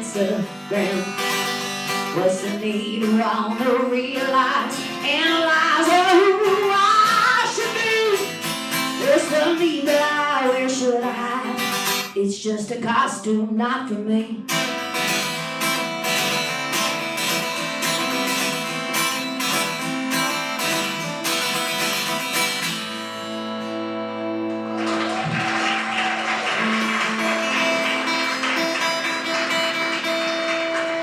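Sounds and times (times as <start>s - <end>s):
acoustic guitar strumming: 0.0s - 12.2s, 14.4s - 31.0s.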